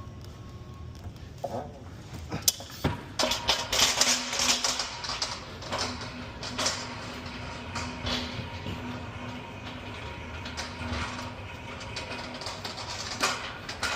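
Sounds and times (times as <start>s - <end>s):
steady hum: 0.0s - 13.9s.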